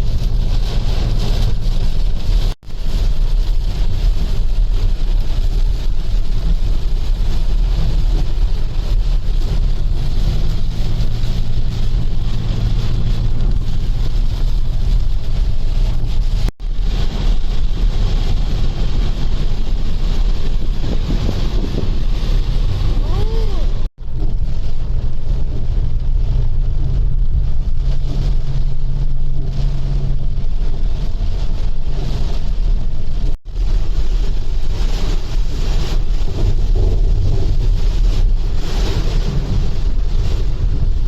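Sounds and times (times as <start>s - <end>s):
steady rain: 0.0s - 41.0s
wind buffeting microphone: 0.0s - 41.0s.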